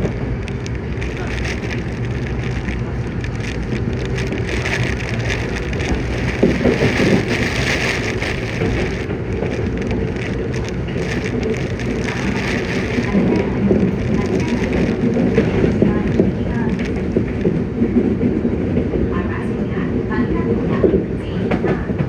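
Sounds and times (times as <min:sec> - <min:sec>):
train rushing noise: 0:00.0 - 0:22.0.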